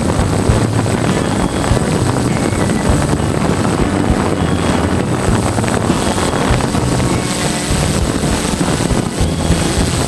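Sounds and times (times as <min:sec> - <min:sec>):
drone motors and propellers: 0:00.0 - 0:10.0
wind buffeting microphone: 0:00.0 - 0:10.0.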